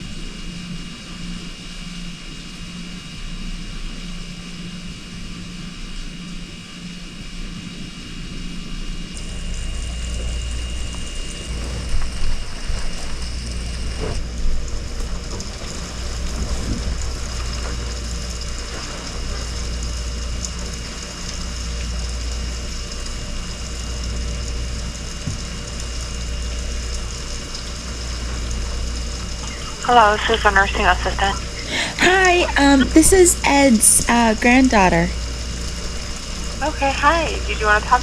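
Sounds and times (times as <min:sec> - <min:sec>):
deep low rumble with hiss: 0:00.0 - 0:38.0
steady mechanical hum: 0:00.0 - 0:38.0.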